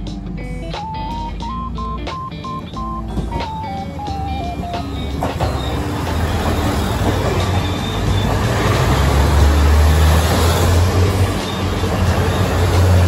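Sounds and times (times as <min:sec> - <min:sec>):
background music: 0:00.0 - 0:13.0
train passing with engine drone: 0:00.0 - 0:13.0.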